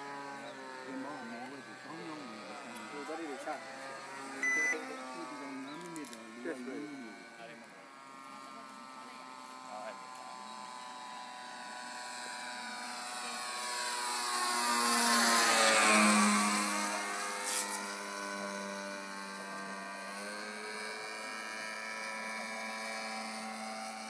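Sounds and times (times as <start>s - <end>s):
model plane engine buzzing past: 0.0s - 24.0s.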